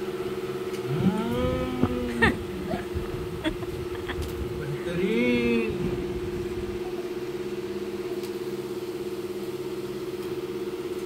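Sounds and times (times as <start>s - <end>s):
pedestal fan motor hum: 0.0s - 11.0s.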